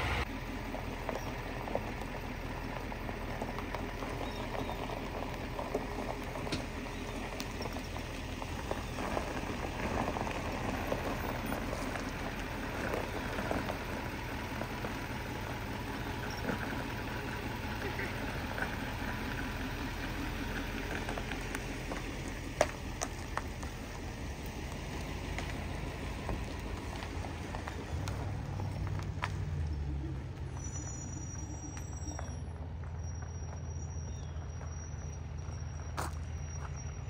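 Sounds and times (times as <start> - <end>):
pickup truck engine idling: 0.0 - 37.0.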